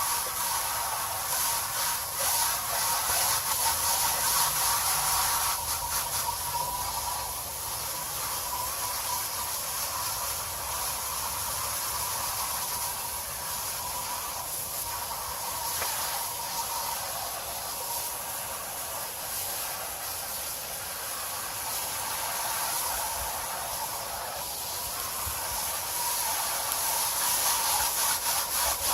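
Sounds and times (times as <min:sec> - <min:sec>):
garden hose spraying water: 0:00.0 - 0:28.9.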